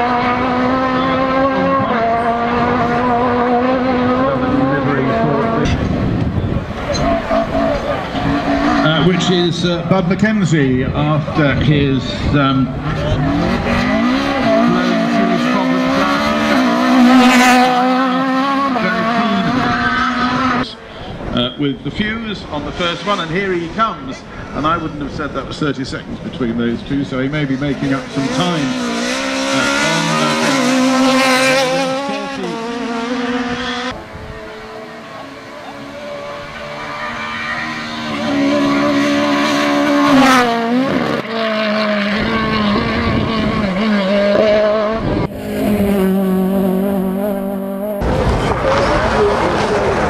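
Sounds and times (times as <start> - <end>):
rally car engine revving hard: 0.0 - 10.1, 11.0 - 20.7, 27.3 - 50.0.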